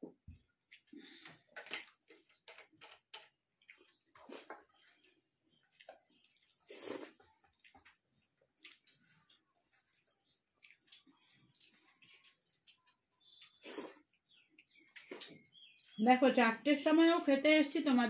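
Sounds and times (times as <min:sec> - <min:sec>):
chewing and lip-smacking: 0:00.6 - 0:16.0.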